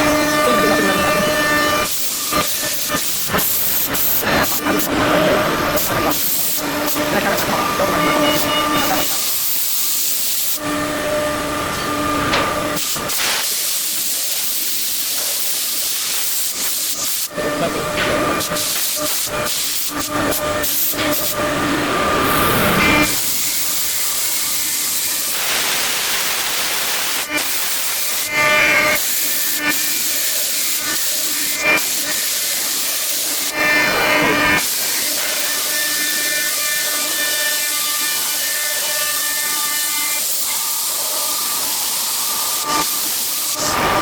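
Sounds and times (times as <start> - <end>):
machine hissing and whining: 0.0 - 44.0.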